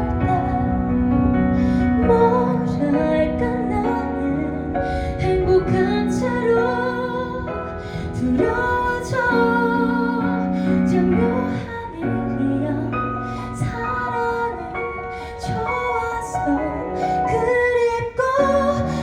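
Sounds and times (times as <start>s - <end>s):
woman singing a slow ballad: 0.0s - 19.0s.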